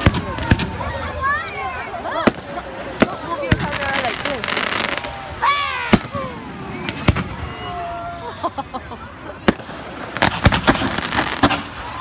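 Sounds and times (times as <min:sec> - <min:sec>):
volley of firework cracks: 0:00.0 - 0:07.8, 0:09.4 - 0:12.0
firework bangs: 0:00.0 - 0:08.0, 0:09.3 - 0:12.0
people's voices: 0:00.0 - 0:12.0.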